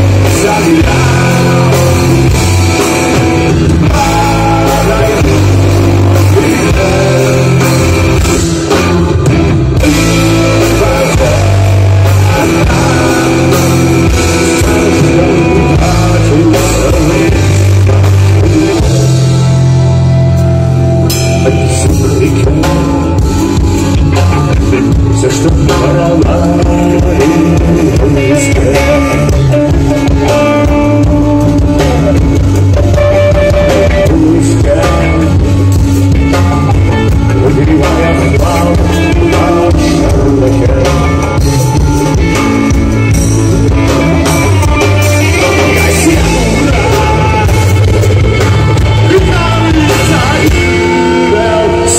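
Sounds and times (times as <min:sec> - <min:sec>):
man singing into microphone: 0:00.0 - 0:19.6, 0:21.1 - 0:42.2, 0:44.8 - 0:47.9, 0:48.8 - 0:51.9
drum kit: 0:00.0 - 0:51.9
electric guitars: 0:00.0 - 0:51.9.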